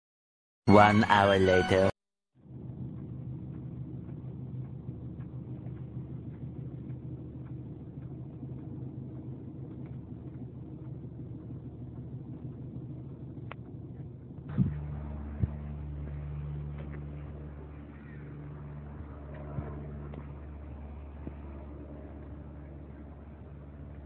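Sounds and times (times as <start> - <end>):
low mechanical rumble: 2.4 - 24.0.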